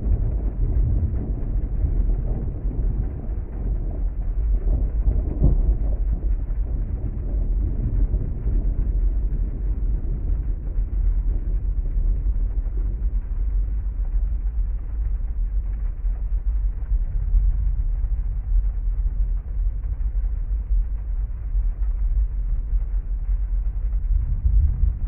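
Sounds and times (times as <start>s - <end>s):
heavy rain: 0.0s - 25.0s
low thunder rumble: 0.0s - 25.0s.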